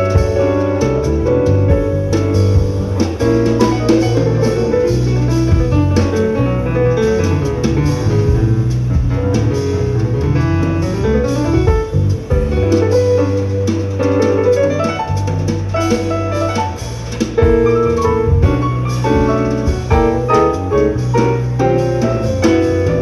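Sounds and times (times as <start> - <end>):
jazz fusion band playing live: 0.0 - 23.0
plucked electric bass line: 0.0 - 23.0.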